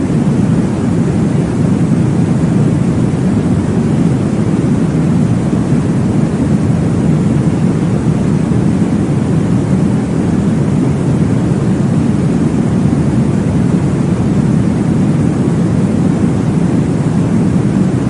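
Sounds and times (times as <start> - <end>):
low whooshing womb sound: 0.0 - 18.0.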